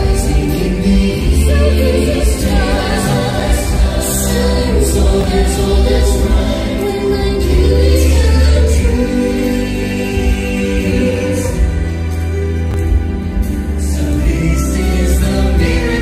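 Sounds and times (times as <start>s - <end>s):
choir-like song over loudspeakers: 0.0s - 16.0s.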